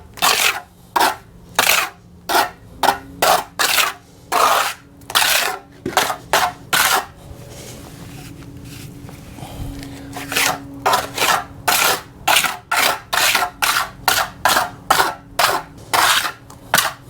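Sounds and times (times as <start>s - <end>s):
trowel scraping cement: 0.1s - 9.0s, 10.0s - 17.0s.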